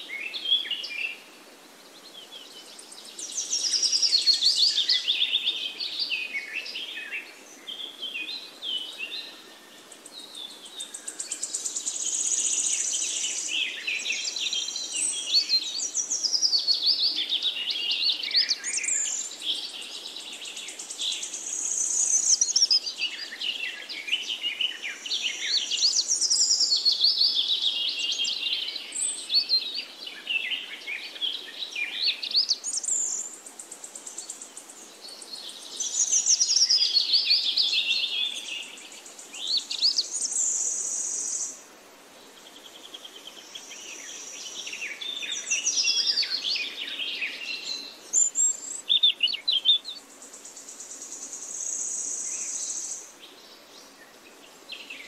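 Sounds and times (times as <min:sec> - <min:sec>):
birds singing and calling: 0:02.0 - 0:41.6, 0:42.2 - 0:55.0.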